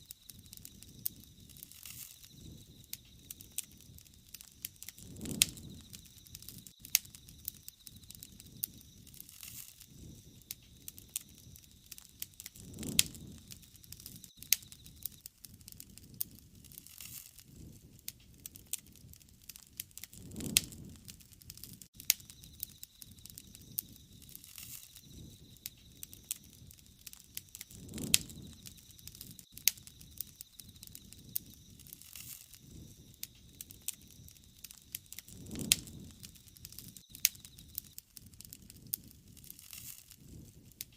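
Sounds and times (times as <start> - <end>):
low whoosh of flames: 0.0 - 40.9
wood fire crackling and popping: 0.0 - 40.9.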